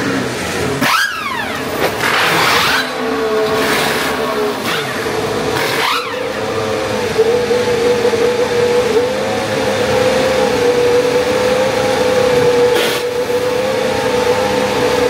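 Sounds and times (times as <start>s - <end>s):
race cars passing by: 0.0s - 15.0s
rush of noise: 0.0s - 15.0s
steady engine note: 0.0s - 15.0s.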